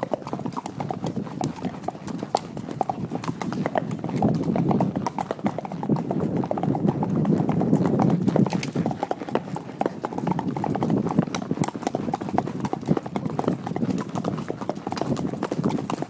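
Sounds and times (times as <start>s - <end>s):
horse hooves on dirt: 0.0s - 16.0s.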